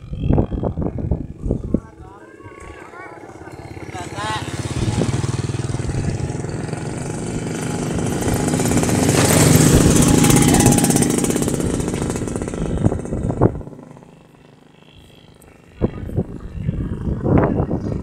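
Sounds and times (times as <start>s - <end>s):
model plane engine running hard: 0.0s - 18.0s.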